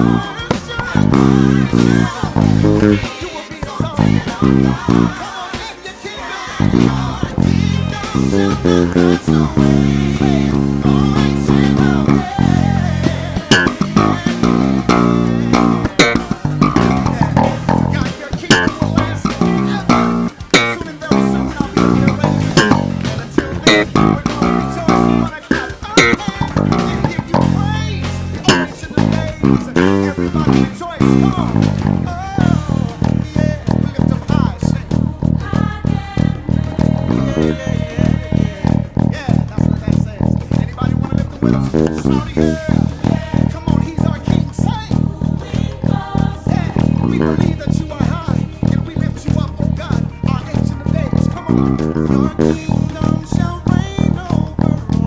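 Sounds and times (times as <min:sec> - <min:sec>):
electric bass playing: 0:00.0 - 0:05.4, 0:06.5 - 0:55.0
gospel band music: 0:00.0 - 0:55.0.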